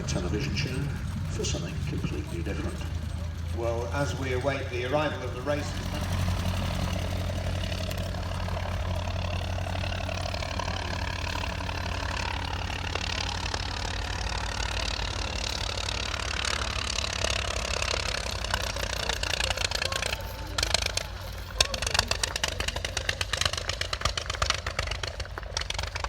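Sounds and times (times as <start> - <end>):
aircraft piston engine running: 0.0 - 26.0.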